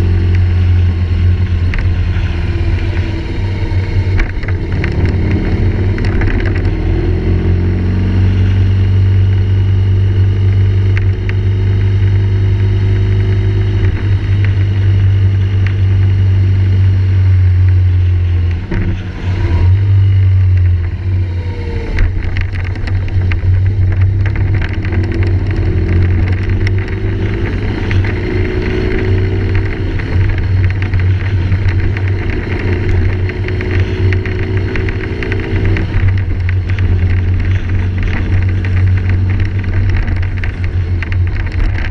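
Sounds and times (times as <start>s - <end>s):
moving vehicle hum: 0.0s - 41.9s.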